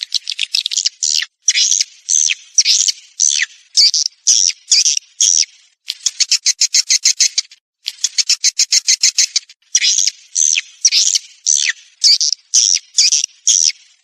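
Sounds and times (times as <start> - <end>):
high bird chirps: 0.0 - 13.8.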